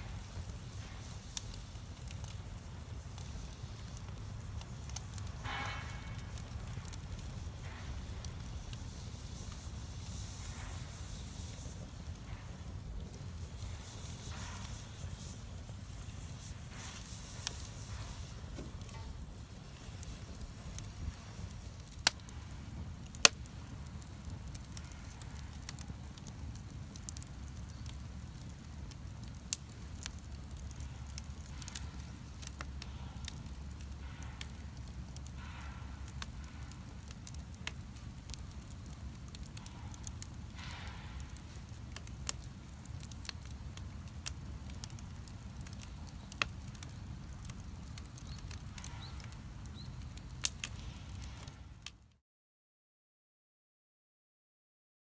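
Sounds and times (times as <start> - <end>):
bonfire crackling and popping: 0.0 - 52.2.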